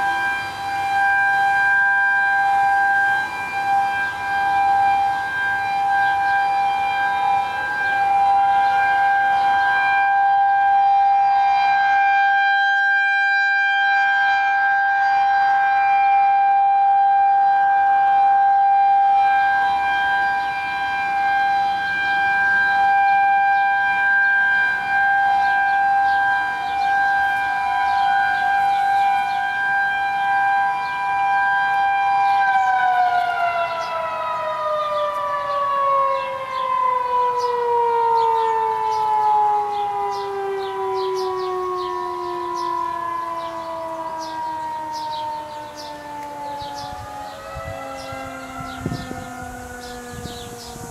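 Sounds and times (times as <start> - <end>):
warning sirens sounding: 0.0 - 50.9.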